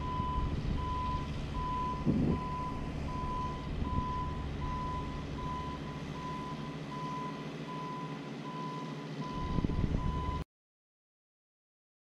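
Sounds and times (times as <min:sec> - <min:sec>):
machine engine hum: 0:00.0 - 0:10.4
warning alarm beeping: 0:00.0 - 0:10.4.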